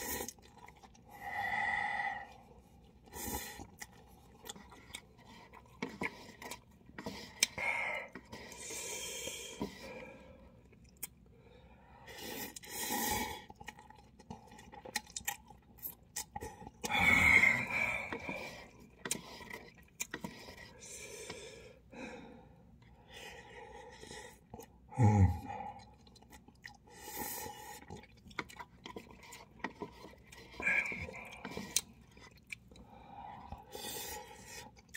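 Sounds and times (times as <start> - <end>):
man slurping and chewing noodles: 0.0 - 21.9, 22.6 - 34.9.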